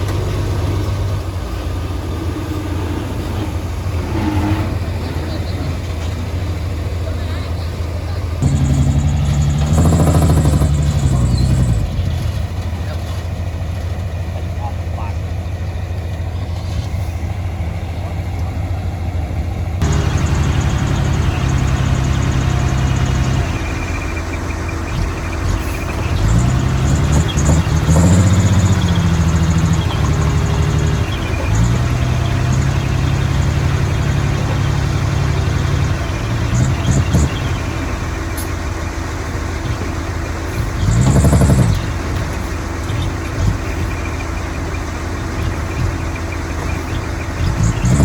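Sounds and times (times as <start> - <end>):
heavy diesel machinery engine revving: 0.0 - 48.0.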